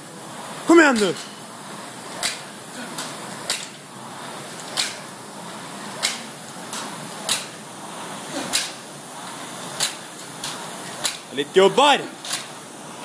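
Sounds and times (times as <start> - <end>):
rowing machine fans whirring: 0.0 - 13.0.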